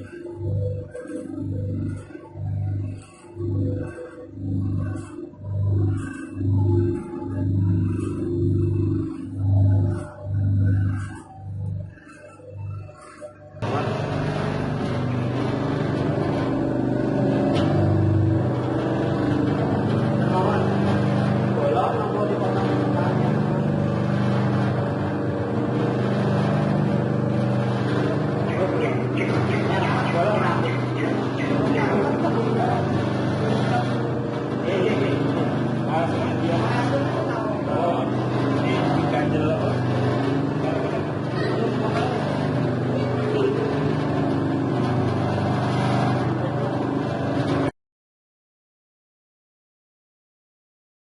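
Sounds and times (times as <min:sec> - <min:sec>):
dough mixer motor hum: 0:00.0 - 0:47.7.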